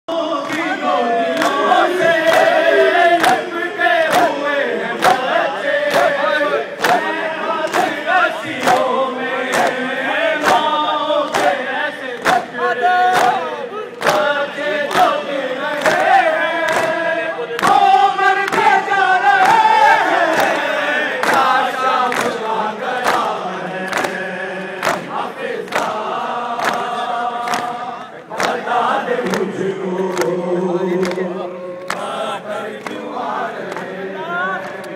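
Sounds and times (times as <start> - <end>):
crowd of men chanting: 0.1 - 34.9.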